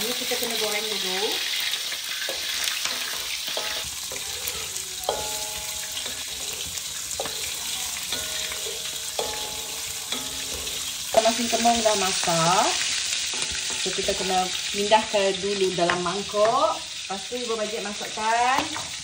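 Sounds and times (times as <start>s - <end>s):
oil spattering crackles: 0.0s - 17.2s
fish sizzling in hot oil: 0.0s - 19.0s.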